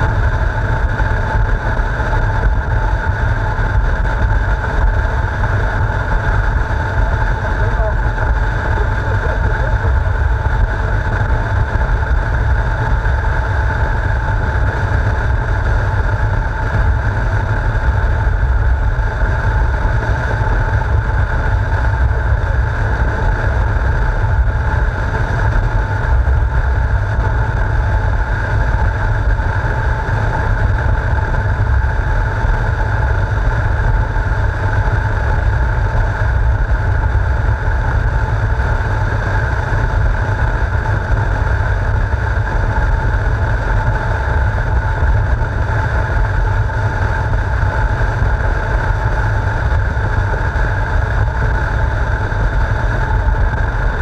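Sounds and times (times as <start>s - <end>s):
motorcycle engine drone: 0.0s - 54.0s
wind rumble on microphone: 0.0s - 54.0s.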